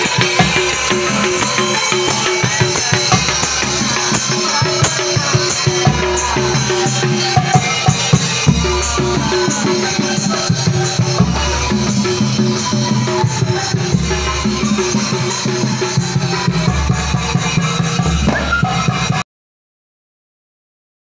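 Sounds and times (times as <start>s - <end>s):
drums struck by mallet and hand: 0.0s - 19.2s.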